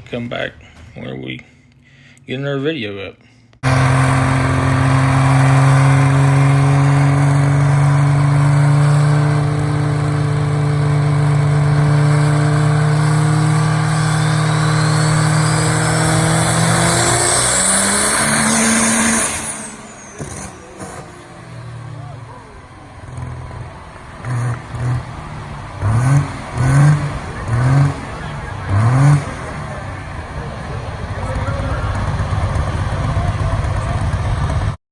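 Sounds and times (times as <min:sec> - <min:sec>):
vehicle engine pulling under load: 0:03.6 - 0:34.8.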